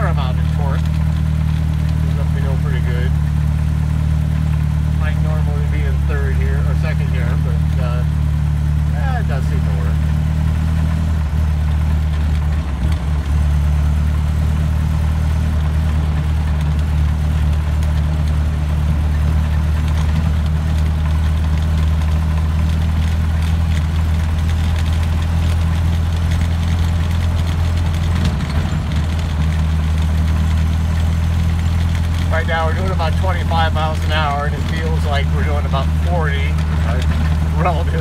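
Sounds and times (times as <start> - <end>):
car engine droning: 0.0 - 38.0.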